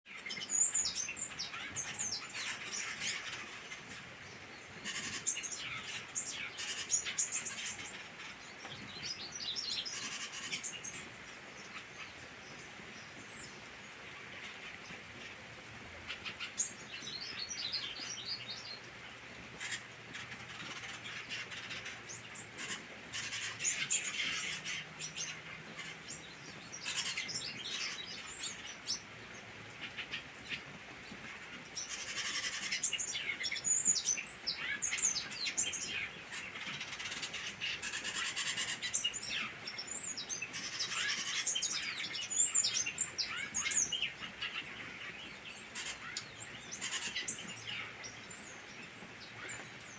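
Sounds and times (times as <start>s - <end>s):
chorus of birds singing: 0.1s - 49.9s.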